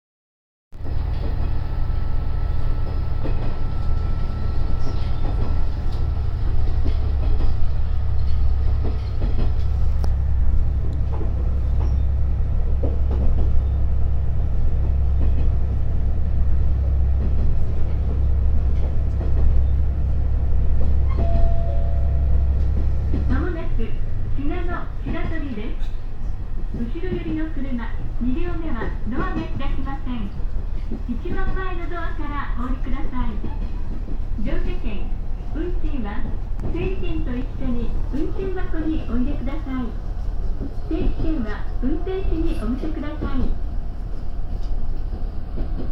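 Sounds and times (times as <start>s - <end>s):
railcar engine rumble: 0.7s - 45.9s.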